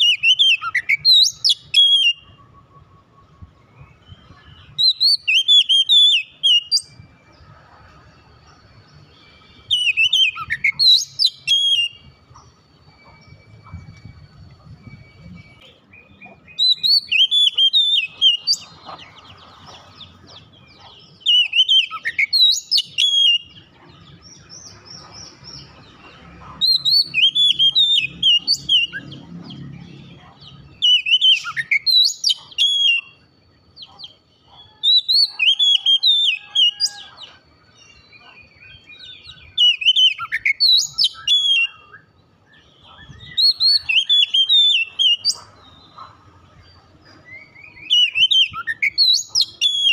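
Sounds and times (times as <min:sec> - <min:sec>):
bird singing whistles and twitters: 0:00.0 - 0:08.1, 0:08.8 - 0:49.9.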